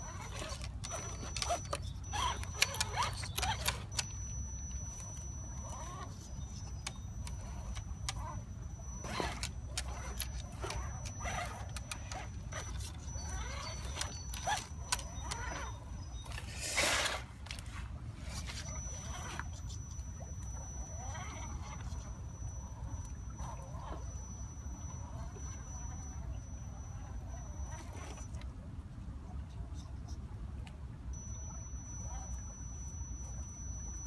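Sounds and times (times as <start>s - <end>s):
small electric motor whining: 0.0s - 28.4s, 31.2s - 34.0s.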